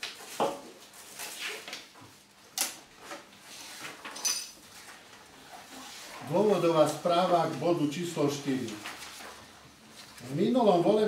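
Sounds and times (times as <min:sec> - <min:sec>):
papers rustling and shuffling: 0:00.0 - 0:11.0.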